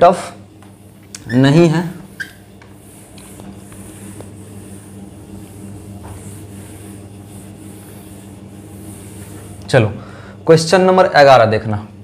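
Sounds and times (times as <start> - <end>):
steady low hum: 0.0 - 12.0
duster rubbing on whiteboard: 0.2 - 10.0.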